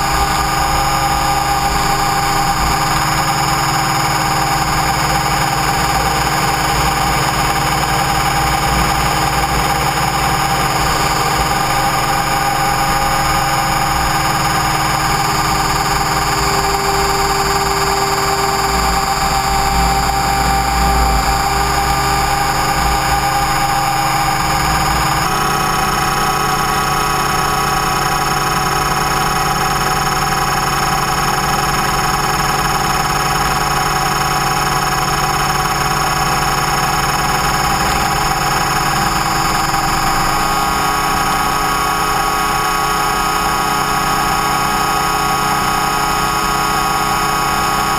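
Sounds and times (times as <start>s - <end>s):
electric motor whine: 0.0s - 47.9s
helicopter rotor noise: 0.0s - 47.9s.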